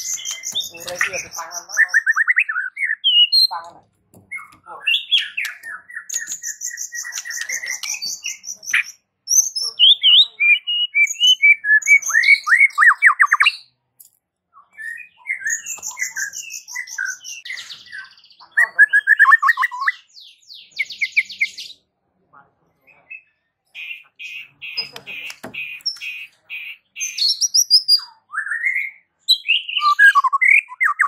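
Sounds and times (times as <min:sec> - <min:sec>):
songbird whistling and trilling: 0:00.0 - 0:03.6, 0:04.3 - 0:13.7, 0:14.5 - 0:21.8, 0:23.1 - 0:31.0.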